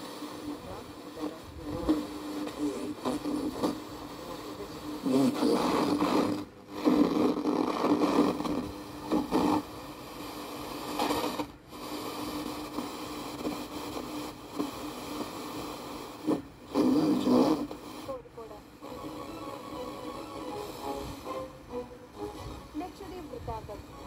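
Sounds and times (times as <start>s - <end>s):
hissy radio reception: 0.0s - 24.0s
steady low hum: 0.0s - 24.0s.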